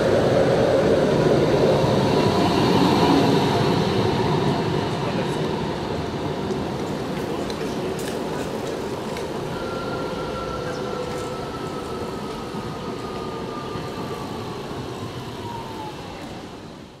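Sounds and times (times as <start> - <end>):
electric tram whine: 0.0 - 17.0
street noise: 0.0 - 17.0.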